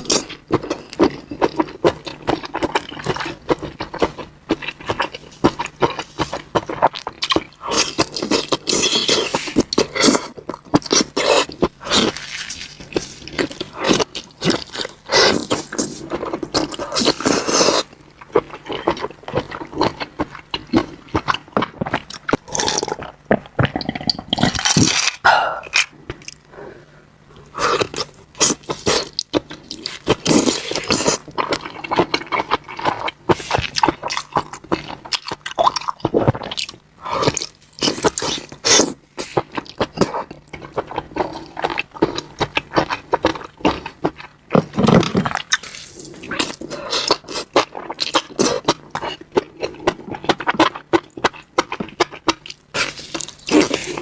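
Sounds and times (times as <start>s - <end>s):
person chewing and crunching: 0.0s - 26.5s, 27.4s - 54.0s.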